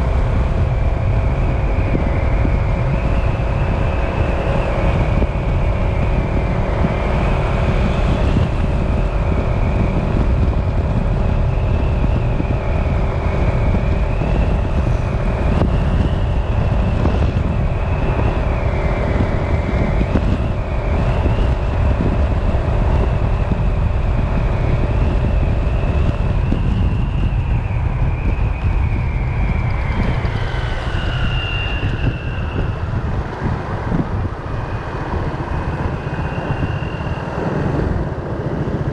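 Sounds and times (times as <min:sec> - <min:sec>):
city road traffic: 0:00.0 - 0:38.9
high wavering whine: 0:00.0 - 0:38.9
wind rumble on microphone: 0:00.0 - 0:38.9.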